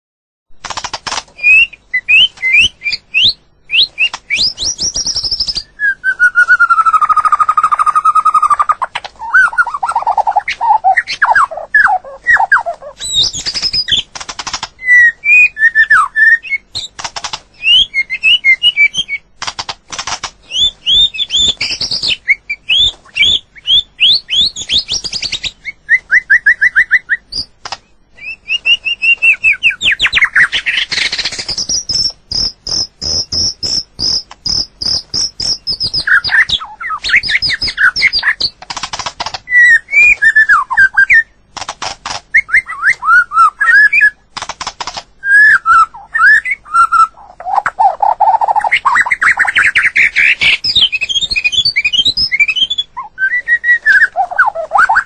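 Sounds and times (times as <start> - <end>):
bird singing whistled phrases: 1.4 - 14.1, 14.8 - 16.9, 17.6 - 19.2, 20.5 - 27.5, 28.2 - 38.5, 39.5 - 41.4, 42.3 - 44.2, 45.2 - 55.0.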